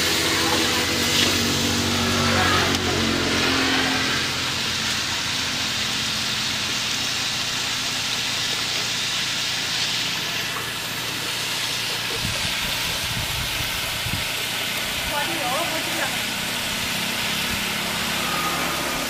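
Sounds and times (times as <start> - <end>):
food sizzling in a wok: 0.0 - 19.0
low rumble of gas burner: 0.0 - 19.0.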